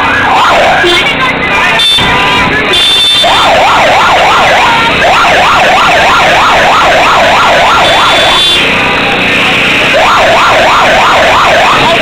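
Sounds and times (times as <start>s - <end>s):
electronic siren yelping: 0.0s - 8.8s, 9.8s - 12.0s.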